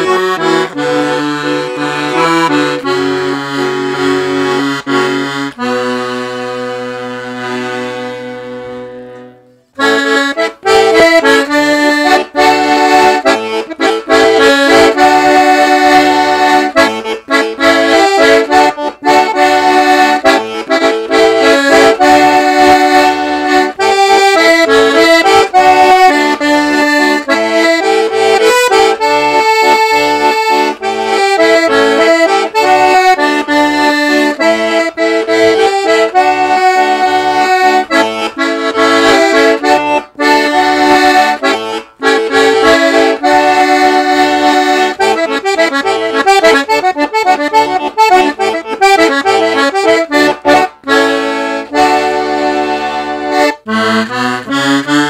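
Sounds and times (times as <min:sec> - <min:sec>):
button accordion playing a tune: 0:00.0 - 0:55.0.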